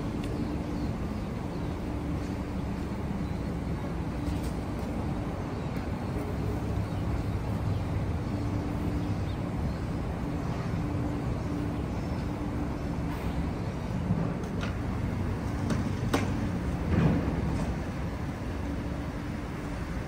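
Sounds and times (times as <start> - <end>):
low rumble of street traffic: 0.0 - 20.0.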